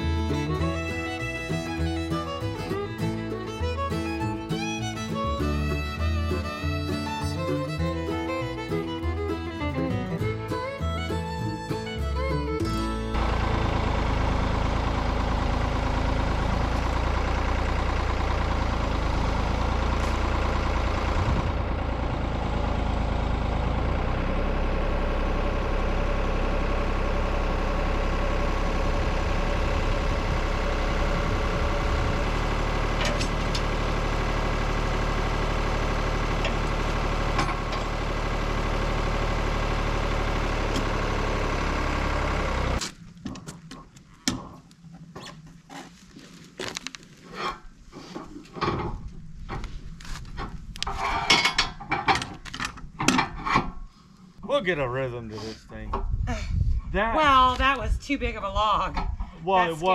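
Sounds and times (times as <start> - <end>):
tractor engine running: 0.0 - 55.1.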